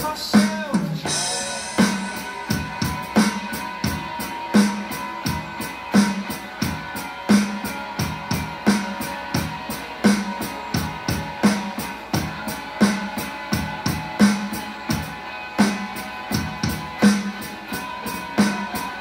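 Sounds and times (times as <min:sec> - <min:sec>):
electronic drum groove: 0:00.0 - 0:19.0
pitched backing part: 0:00.0 - 0:19.0.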